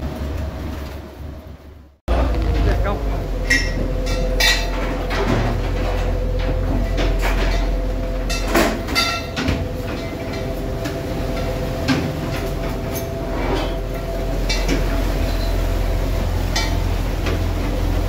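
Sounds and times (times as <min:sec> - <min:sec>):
boat engine droning: 0:00.0 - 0:18.0
gear clanking on deck: 0:02.1 - 0:18.0.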